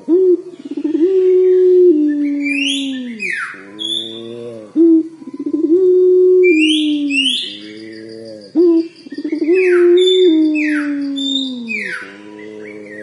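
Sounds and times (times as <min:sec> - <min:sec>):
small birds chirping: 0:00.0 - 0:05.8, 0:06.5 - 0:13.0
dove cooing: 0:00.0 - 0:13.0.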